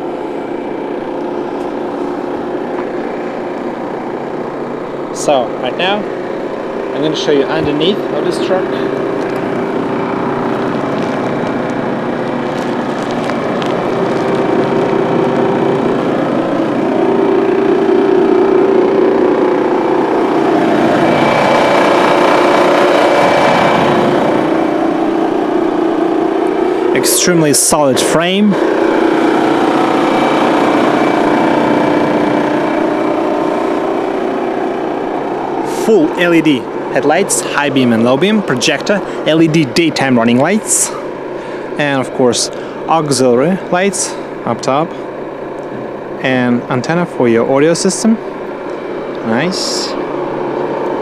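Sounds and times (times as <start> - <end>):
diesel truck engine idling: 0.0 - 51.0.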